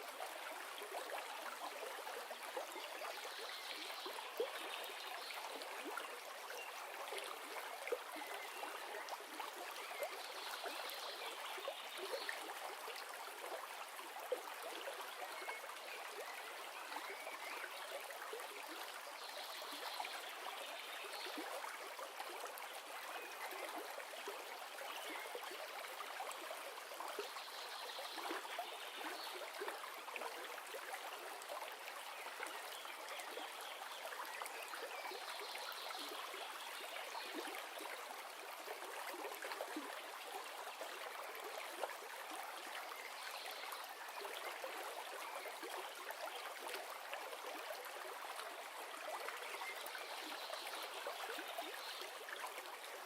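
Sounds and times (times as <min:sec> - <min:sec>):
stream flowing and trickling: 0:00.0 - 0:53.0.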